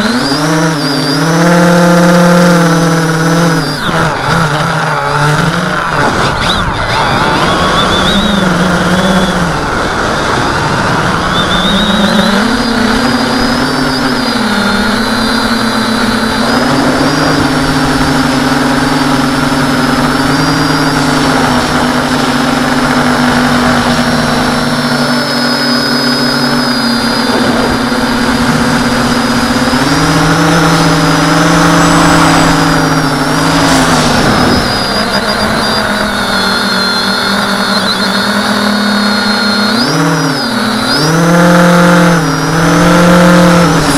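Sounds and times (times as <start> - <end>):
drone motors buzzing whine: 0.0 - 43.9.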